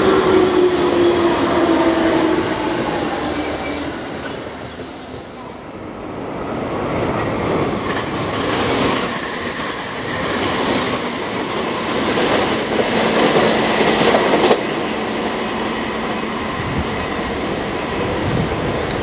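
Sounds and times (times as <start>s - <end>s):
express train passing at speed: 0.0s - 19.0s.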